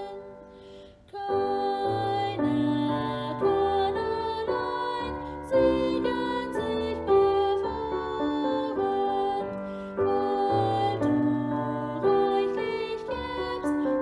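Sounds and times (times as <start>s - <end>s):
slow gentle instrumental music: 0.0s - 14.0s.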